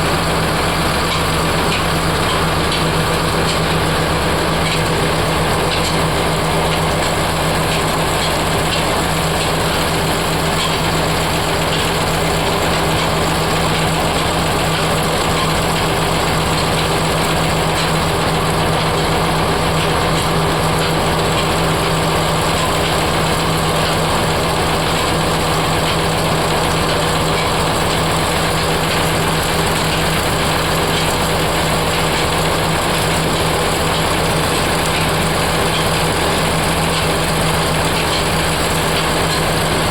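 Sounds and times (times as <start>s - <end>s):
heavy machinery running: 0.0s - 39.9s.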